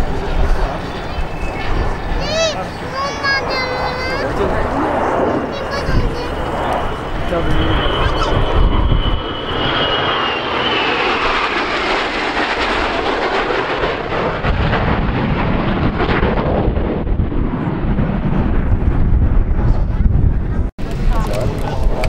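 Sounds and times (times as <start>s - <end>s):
high jet whine falling in pitch: 0.0s - 22.0s
jet engine noise: 0.0s - 22.0s.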